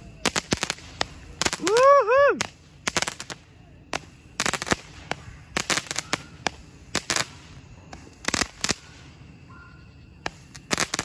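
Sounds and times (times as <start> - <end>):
fireworks bangs and pops: 0.0 - 9.2, 10.2 - 11.0.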